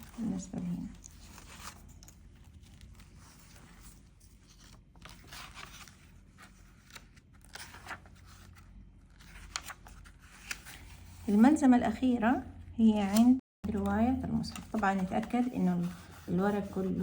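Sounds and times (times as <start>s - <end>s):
book pages rustling: 0.0s - 11.6s, 13.0s - 17.0s.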